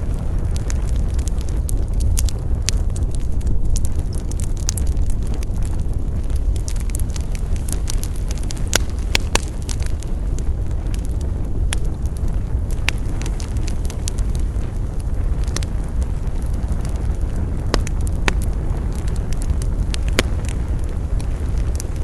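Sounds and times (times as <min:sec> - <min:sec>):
campfire crackling and popping: 0:00.0 - 0:22.0
low steady fire rumble: 0:00.0 - 0:22.0.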